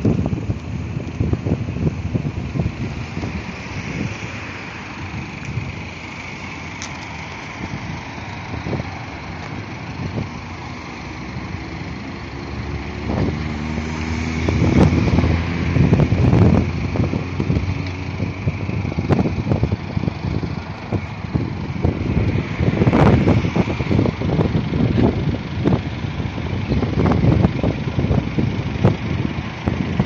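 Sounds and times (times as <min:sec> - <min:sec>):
diesel engine idling: 0:00.0 - 0:30.0
wind buffeting microphone: 0:00.0 - 0:30.0.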